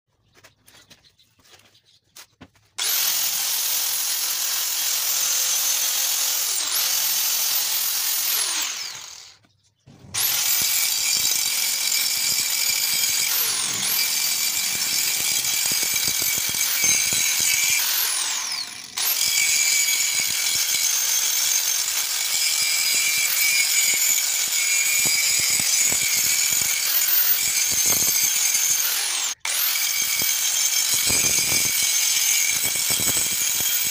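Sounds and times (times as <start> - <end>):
angle grinder grinding metal: 2.8 - 33.9.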